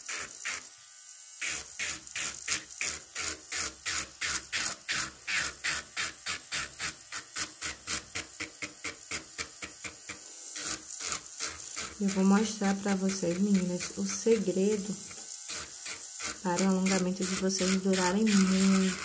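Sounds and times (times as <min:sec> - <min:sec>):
electric nail drill grinding: 0:00.0 - 0:19.0.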